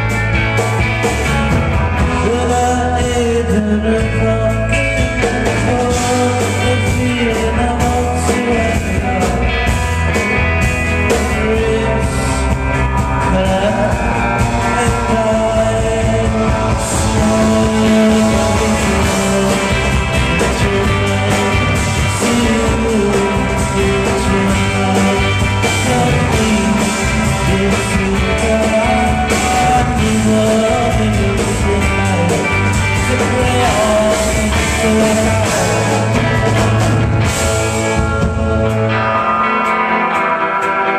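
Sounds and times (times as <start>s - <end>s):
drum kit: 0.0s - 40.9s
electric guitars: 0.0s - 40.9s
man singing: 2.0s - 10.2s, 11.0s - 36.8s.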